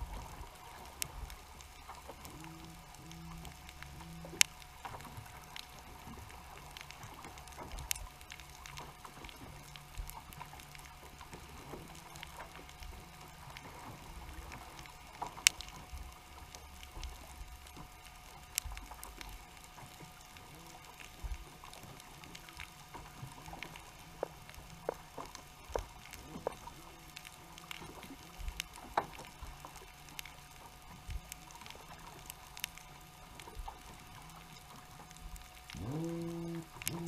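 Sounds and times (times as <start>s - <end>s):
faint steady tone: 0.0s - 37.0s
low underwater hum: 0.0s - 37.0s.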